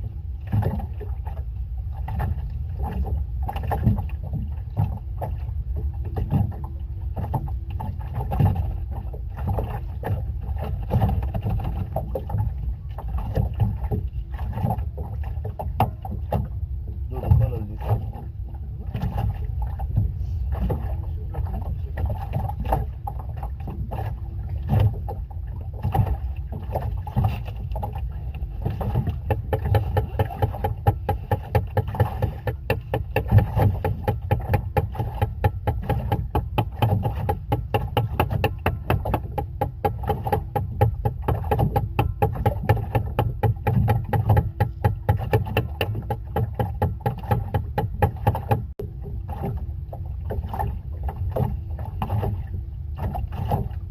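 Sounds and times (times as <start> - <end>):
boat motor rumbling: 0.0 - 53.9
hull slapping waves: 0.0 - 53.9.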